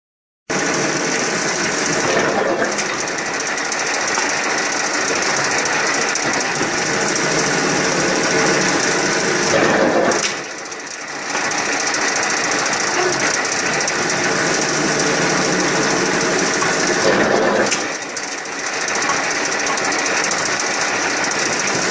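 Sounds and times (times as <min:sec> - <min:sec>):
veneer peeling machine rattling: 0:00.5 - 0:21.9.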